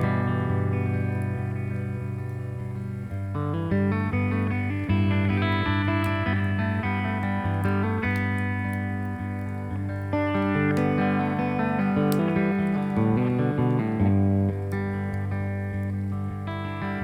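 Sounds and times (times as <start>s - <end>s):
picked guitar notes: 0.0s - 17.0s.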